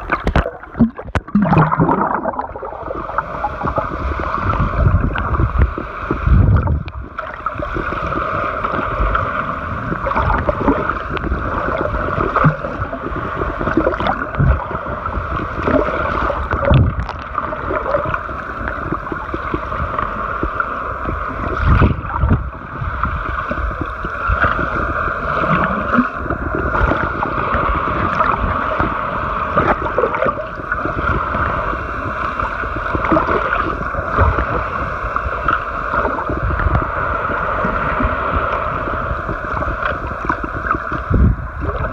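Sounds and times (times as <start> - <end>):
underwater hum: 0.0 - 41.9
underwater thumps and sloshes: 0.0 - 41.9.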